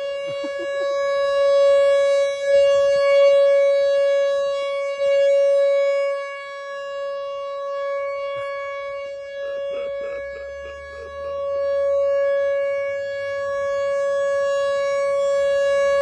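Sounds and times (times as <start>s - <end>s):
tornado siren wailing: 0.0s - 16.0s.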